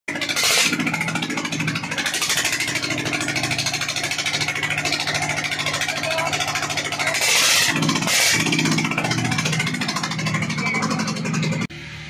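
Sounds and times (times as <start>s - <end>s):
diesel engine chugging: 0.1s - 12.0s.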